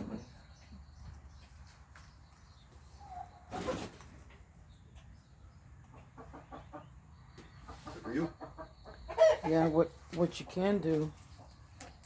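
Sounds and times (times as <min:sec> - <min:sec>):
poultry bird call: 0:00.0 - 0:12.0.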